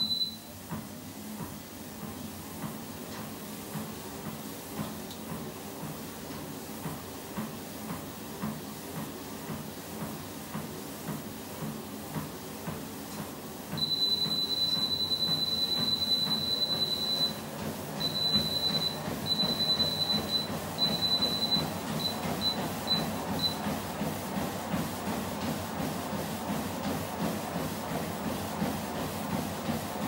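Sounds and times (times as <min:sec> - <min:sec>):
footfalls on treadmill: 0:00.0 - 0:30.0
treadmill belt motor: 0:00.0 - 0:30.0.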